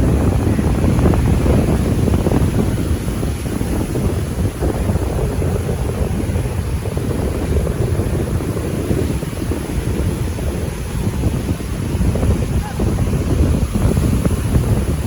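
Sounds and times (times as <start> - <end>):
seaside surf: 0.0 - 15.0
wind buffeting microphone: 0.0 - 15.0.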